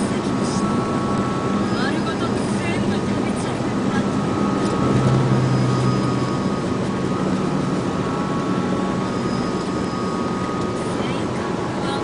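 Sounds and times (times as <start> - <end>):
truck engine drone: 0.0 - 12.0
faint high whine: 0.4 - 12.0
tyre and road noise: 0.8 - 12.0.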